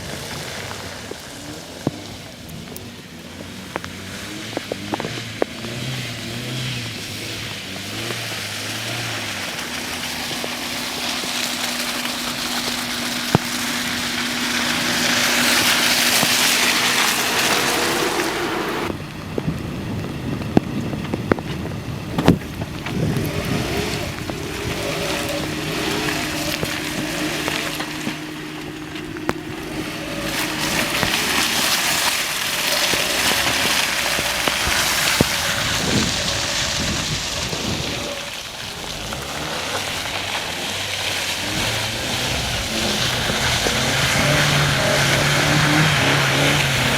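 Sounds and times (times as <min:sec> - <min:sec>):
tyres hissing through mud: 0:00.0 - 0:18.9, 0:22.2 - 0:46.9
car engine under load: 0:00.0 - 0:46.9.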